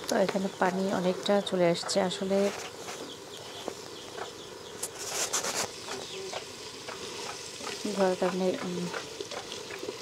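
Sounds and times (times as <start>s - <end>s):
curry sizzling: 0.0s - 10.0s.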